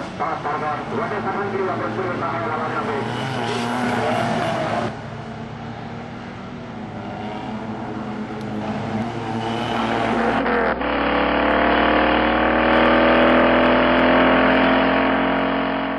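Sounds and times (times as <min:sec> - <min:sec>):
engine note climbing in pitch: 0:00.0 - 0:15.9
race car engines running: 0:00.0 - 0:15.9.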